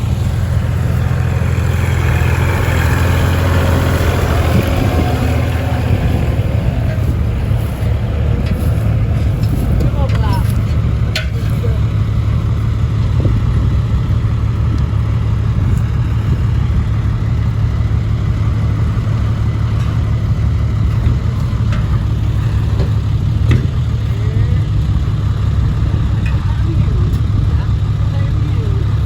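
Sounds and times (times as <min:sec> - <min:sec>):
truck diesel engine droning: 0:00.0 - 0:29.0.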